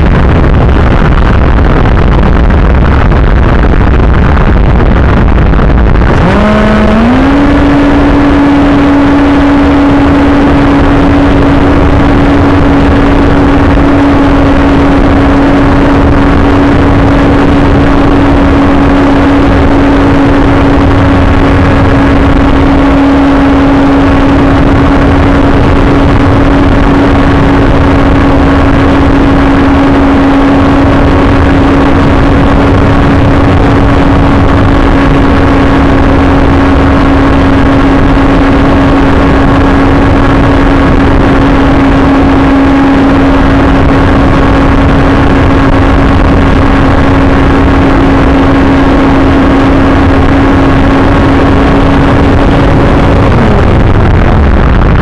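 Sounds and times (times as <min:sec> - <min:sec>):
wind noise on microphone: 0:00.0 - 0:55.0
electric motor and propeller droning: 0:04.9 - 0:54.9.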